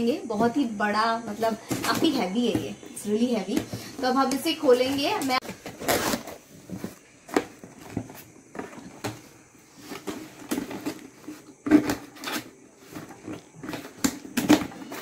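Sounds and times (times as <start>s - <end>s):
cardboard rustling and knocking: 1.4s - 15.0s.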